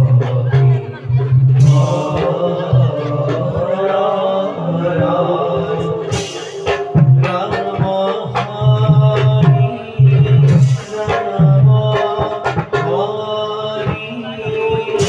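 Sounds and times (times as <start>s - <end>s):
drumming: 0.0s - 15.0s
person singing: 0.0s - 15.0s.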